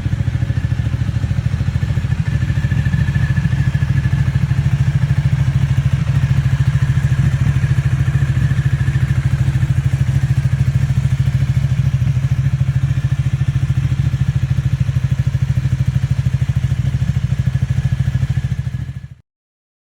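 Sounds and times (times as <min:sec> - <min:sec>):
motorcycle engine pulsing: 0:00.0 - 0:19.0.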